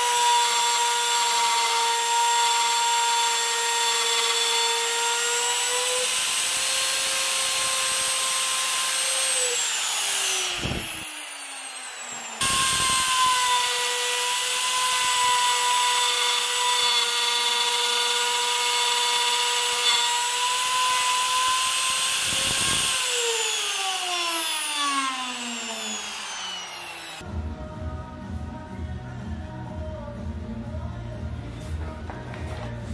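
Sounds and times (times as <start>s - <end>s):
electric router whining: 0.0s - 27.2s.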